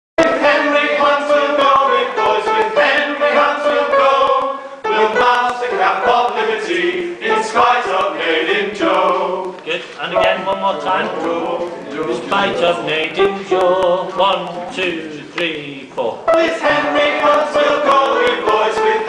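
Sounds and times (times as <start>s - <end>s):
group singing in chorus: 0.2s - 19.0s.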